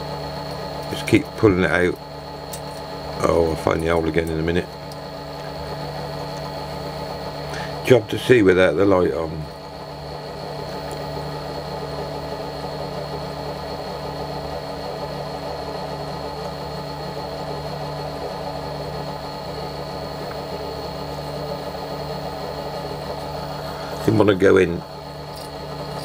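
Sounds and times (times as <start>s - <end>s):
lathe motor humming: 0.0s - 26.0s.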